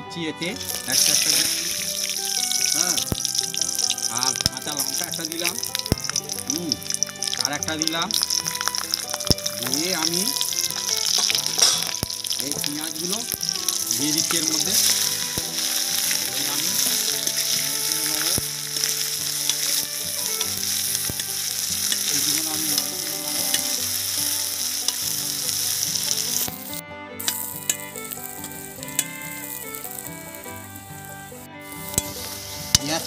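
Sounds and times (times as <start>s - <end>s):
onions sizzling in hot oil: 0.6s - 33.0s.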